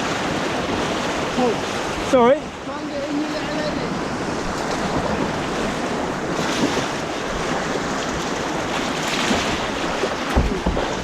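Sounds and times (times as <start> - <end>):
white-water rapids rushing: 0.0 - 11.0.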